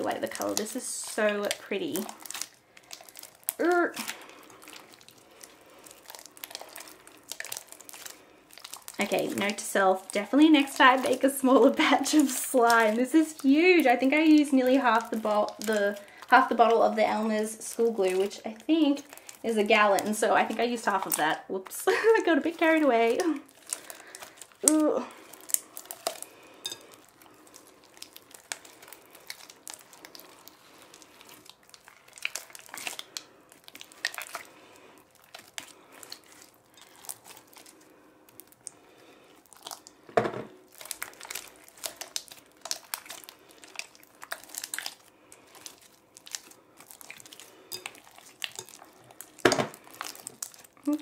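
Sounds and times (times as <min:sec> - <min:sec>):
slime squishing and crackling: 0:00.0 - 0:51.0.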